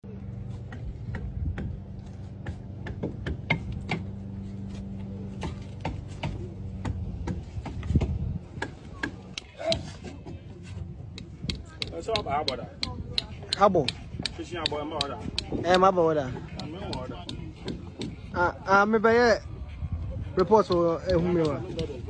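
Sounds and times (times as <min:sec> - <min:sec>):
steady low hum: 0:00.0 - 0:22.0
hammer and chisel on wood: 0:00.7 - 0:04.2, 0:05.3 - 0:18.5, 0:20.4 - 0:22.0.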